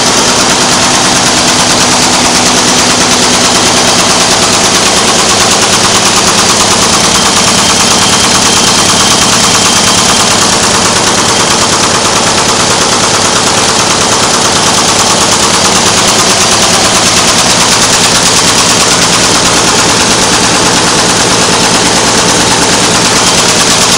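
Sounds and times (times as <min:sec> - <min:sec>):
machine clattering rapidly: 0:00.0 - 0:23.9.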